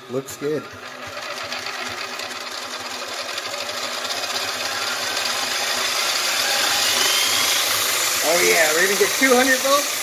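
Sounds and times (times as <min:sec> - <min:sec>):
metal lathe whirring: 0:00.0 - 0:10.0.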